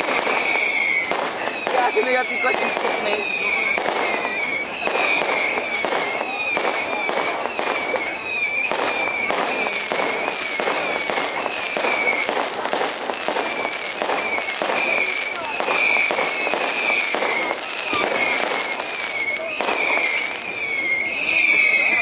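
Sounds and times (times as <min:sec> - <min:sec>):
crowd voices: 0:00.0 - 0:22.0
fireworks bangs and crackles: 0:00.0 - 0:22.0
high wavering whistling tone: 0:00.1 - 0:12.3, 0:13.4 - 0:22.0.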